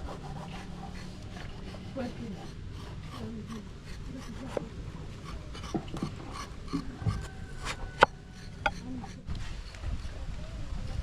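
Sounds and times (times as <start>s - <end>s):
scraping and rubbing: 0.0s - 10.2s.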